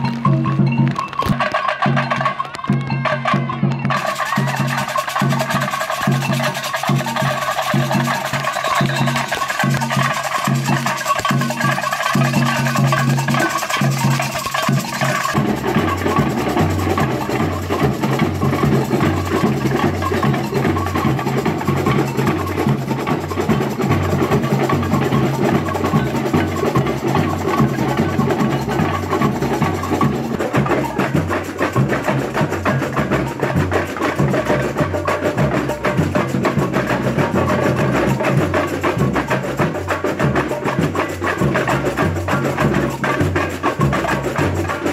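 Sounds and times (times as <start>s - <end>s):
samba percussion beat: 0.0s - 44.9s
sharp clicking percussion: 0.0s - 44.9s.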